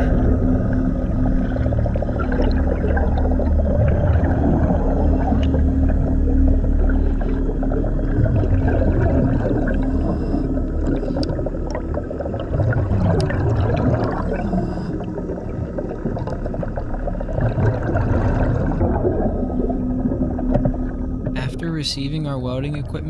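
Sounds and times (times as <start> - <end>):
diver's air bubbling underwater: 0.0 - 21.3
steady low hum: 0.0 - 23.0.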